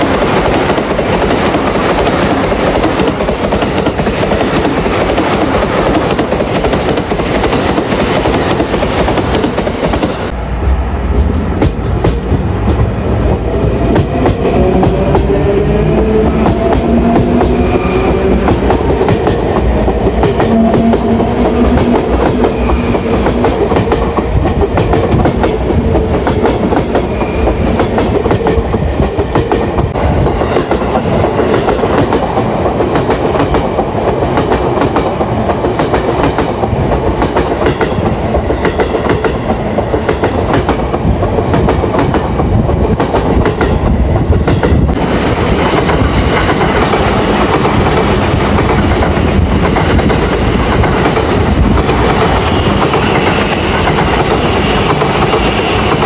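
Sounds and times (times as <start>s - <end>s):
train wheels clattering over rail joints: 0.0s - 10.3s, 11.1s - 15.4s, 16.4s - 56.0s.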